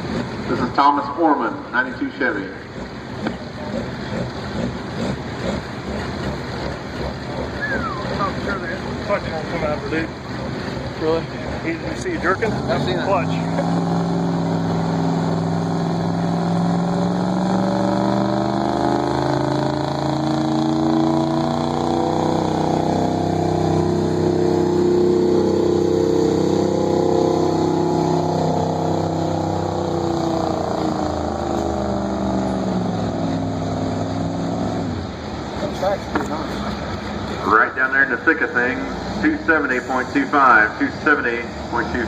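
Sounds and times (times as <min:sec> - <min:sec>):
truck engine under load: 0:00.0 - 0:42.0.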